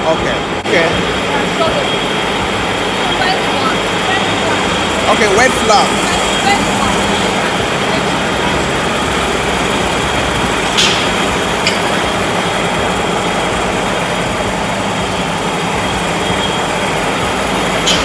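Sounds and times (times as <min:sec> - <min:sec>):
factory machinery running: 0:00.0 - 0:18.0.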